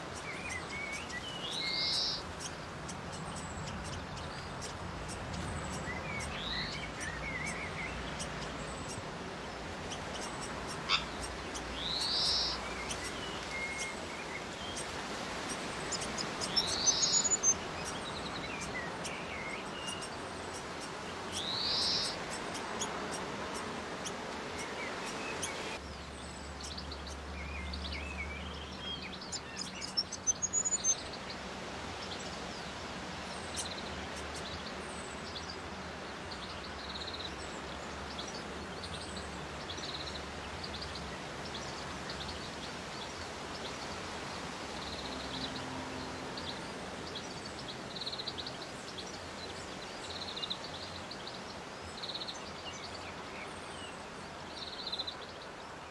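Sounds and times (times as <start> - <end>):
small birds chirping: 0.0 - 55.9
steady background hiss: 0.0 - 55.9.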